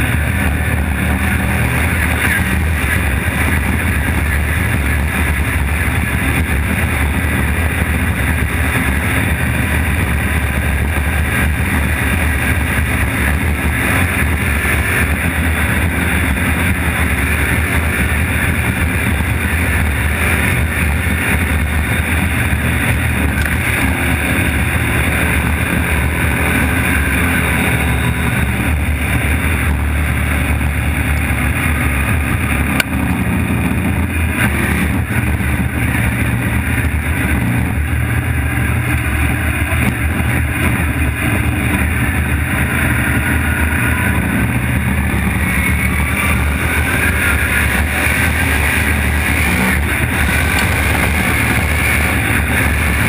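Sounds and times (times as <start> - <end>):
truck engine under load: 0.0 - 53.0
tyres rushing on gravel: 0.0 - 53.0.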